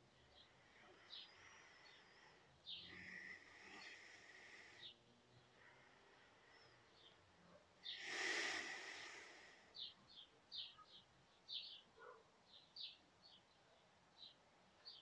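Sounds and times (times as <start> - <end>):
small bird chirping: 0.0 - 5.7, 6.5 - 15.0.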